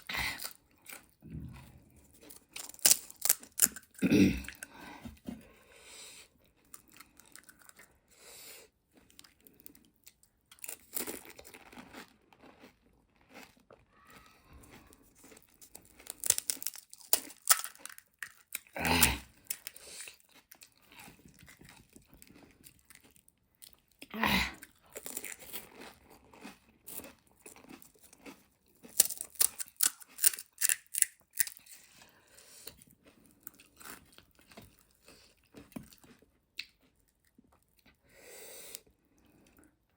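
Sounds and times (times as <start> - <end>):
crunching and chewing crisp food: 0.0 - 39.9.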